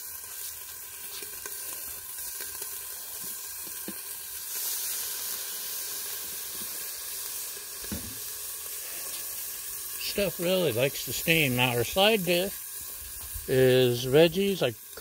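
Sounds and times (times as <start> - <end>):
liquid hissing on hot steel: 0.0 - 15.0
meat sizzling on griddle: 0.0 - 15.0.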